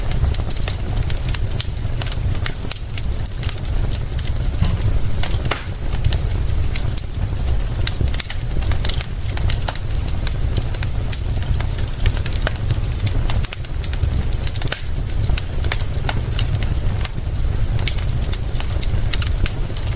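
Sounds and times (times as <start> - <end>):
fire crackling and popping: 0.0 - 19.9
rain hissing: 0.0 - 19.9.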